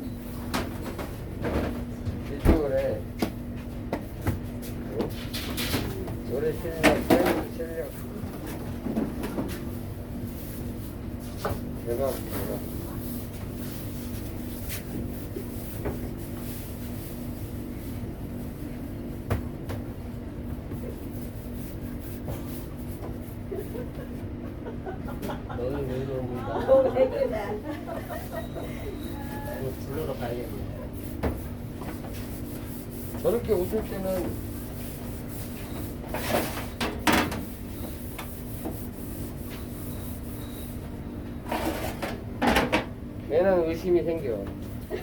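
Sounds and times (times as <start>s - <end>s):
kitchen machinery humming: 0.0s - 45.0s.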